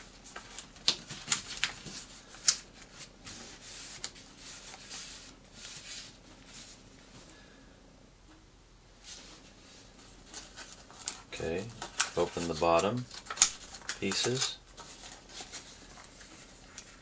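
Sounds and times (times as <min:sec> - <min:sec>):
paper crinkling: 0:00.0 - 0:06.8, 0:10.0 - 0:17.0
paper rubbing and rustling: 0:00.0 - 0:06.8, 0:09.0 - 0:17.0.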